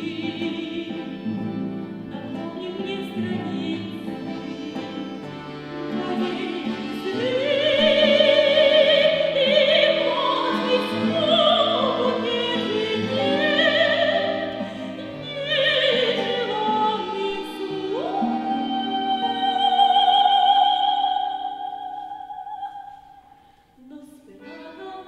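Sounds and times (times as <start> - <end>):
accordion holding low notes: 0.0 - 21.9, 24.4 - 25.0
classical guitar: 0.0 - 25.0
soprano singing operatic style: 0.0 - 25.0.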